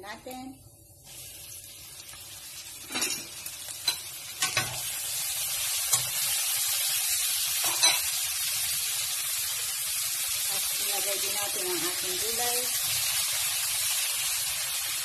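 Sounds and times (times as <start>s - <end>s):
onions sizzling in a pan: 0.0s - 15.0s.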